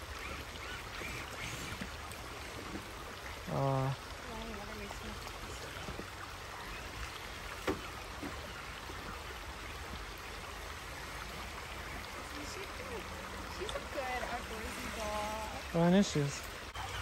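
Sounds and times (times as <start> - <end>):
creek running over stones: 0.0 - 17.0.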